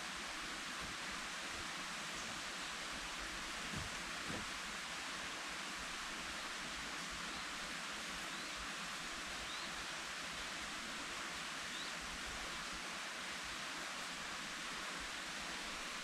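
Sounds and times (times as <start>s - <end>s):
forest ambience hiss: 0.0s - 16.0s.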